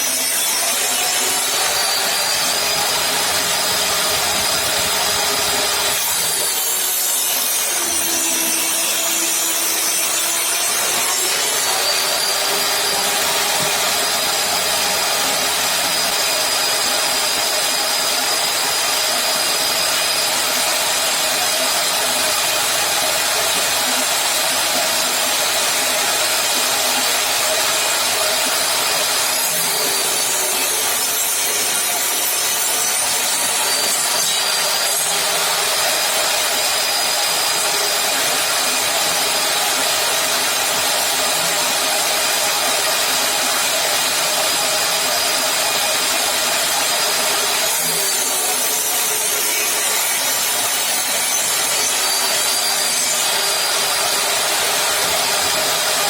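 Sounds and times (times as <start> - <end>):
power tool motor whine: 0.0 - 56.0.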